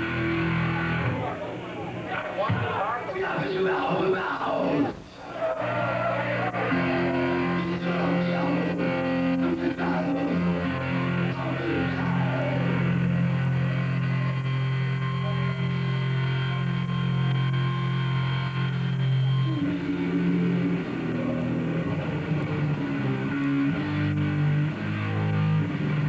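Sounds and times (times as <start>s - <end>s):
metal band playing live: 0.0s - 1.4s, 6.2s - 26.0s.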